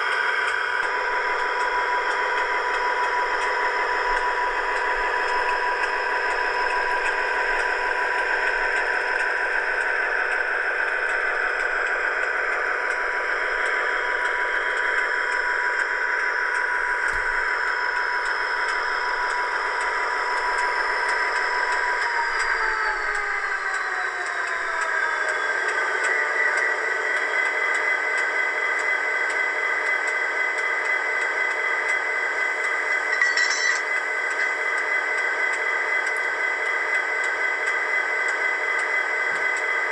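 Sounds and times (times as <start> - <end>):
diesel engine sound through small speaker: 0.0 - 39.9.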